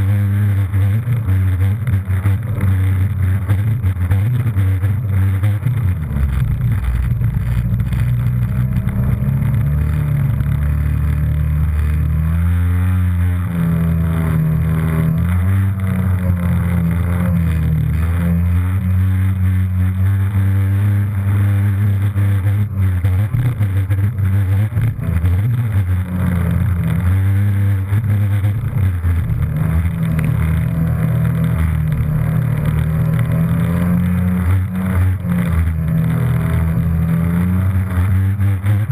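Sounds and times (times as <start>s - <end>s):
jet ski engine revving: 0.0s - 38.9s.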